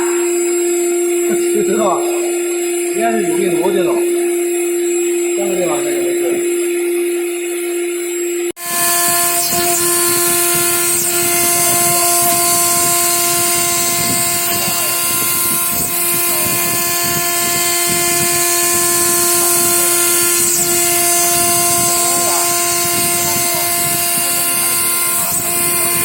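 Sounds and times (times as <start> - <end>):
machine high whine: 0.0 - 26.0.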